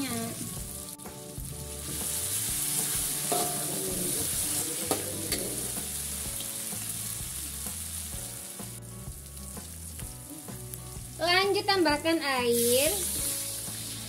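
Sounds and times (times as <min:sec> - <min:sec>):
paste sizzling in oil: 0:00.0 - 0:14.0.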